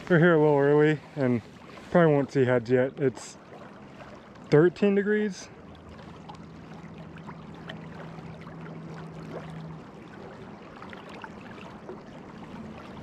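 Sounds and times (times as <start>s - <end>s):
river current flowing and lapping: 0.0s - 13.0s
water splashes and trickles: 0.0s - 13.0s.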